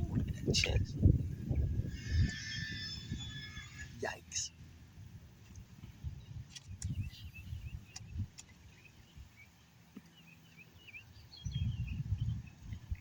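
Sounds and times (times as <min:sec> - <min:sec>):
wind buffeting microphone: 0:00.0 - 0:04.2, 0:04.9 - 0:09.4, 0:10.9 - 0:13.0
small birds chirping: 0:00.1 - 0:13.0.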